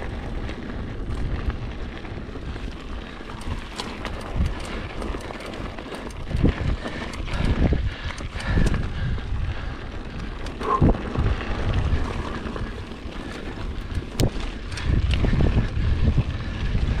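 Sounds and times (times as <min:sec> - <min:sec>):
bike rattling over bumps: 0:00.0 - 0:17.0
wind buffeting microphone: 0:00.0 - 0:17.0.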